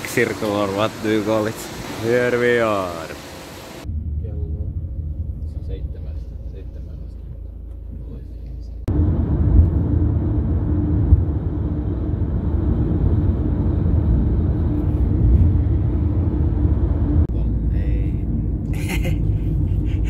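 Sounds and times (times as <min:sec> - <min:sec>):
car cabin road and engine noise: 0:00.0 - 0:20.0.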